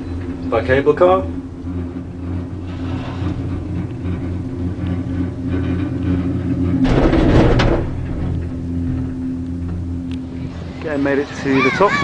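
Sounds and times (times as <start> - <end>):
rumbling clatter: 0.0 - 11.4
cable car cabin humming: 0.0 - 12.0.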